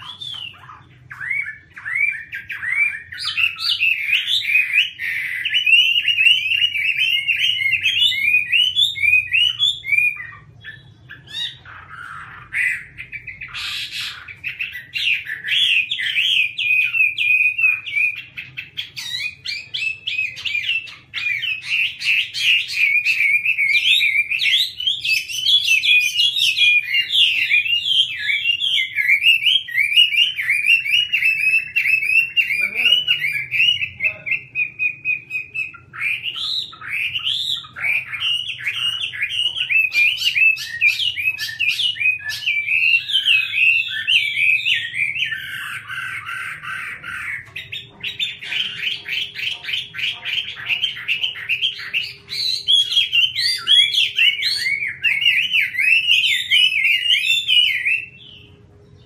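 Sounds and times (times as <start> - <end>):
bird singing whistled phrases: 0.0 - 58.5.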